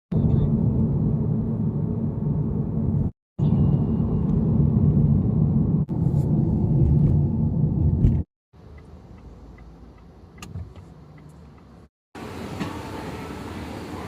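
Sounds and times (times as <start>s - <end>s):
car road rumble inside cabin: 0.1s - 12.8s.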